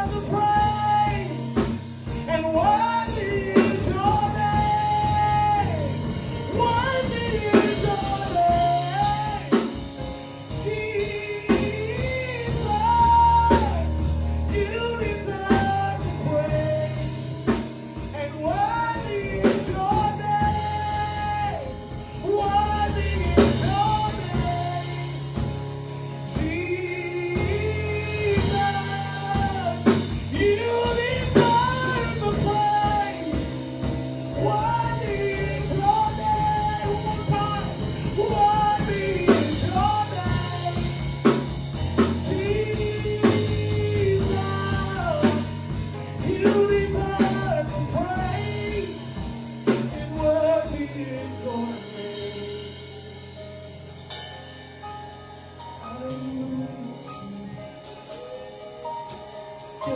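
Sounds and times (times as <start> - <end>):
man singing into a microphone: 0.0 - 53.4, 55.7 - 59.9
drum kit strokes: 0.0 - 59.9
keyboard chords: 0.0 - 59.9.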